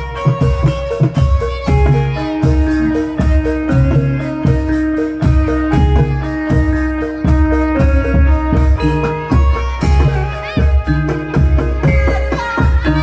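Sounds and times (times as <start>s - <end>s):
low drum beating: 0.0s - 13.0s
ringing pitched notes: 0.0s - 13.0s.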